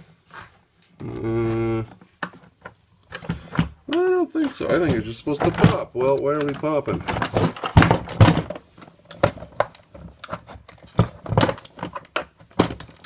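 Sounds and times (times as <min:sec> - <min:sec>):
plastic parts clicking and knocking: 0:01.9 - 0:13.0.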